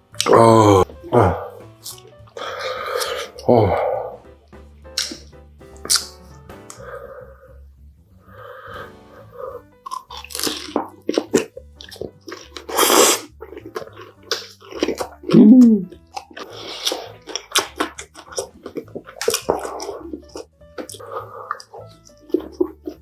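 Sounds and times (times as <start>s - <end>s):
person chewing food: 0.0s - 7.2s, 9.7s - 23.0s.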